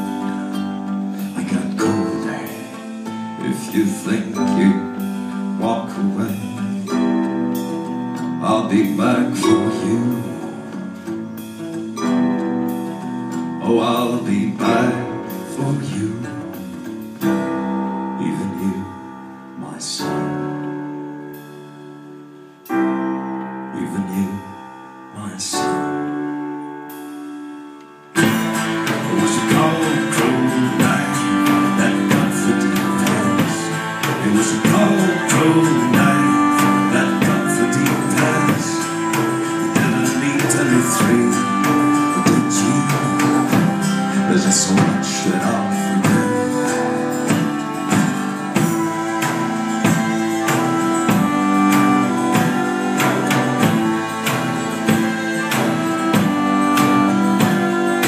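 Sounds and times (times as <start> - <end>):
keyboard: 0.0 - 58.0
strummed acoustic guitar: 0.0 - 58.0.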